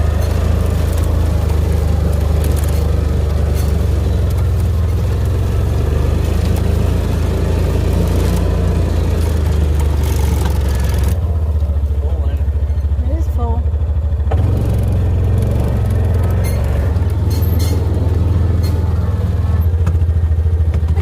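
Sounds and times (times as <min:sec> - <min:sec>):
engine throbbing steadily: 0:00.0 - 0:21.0.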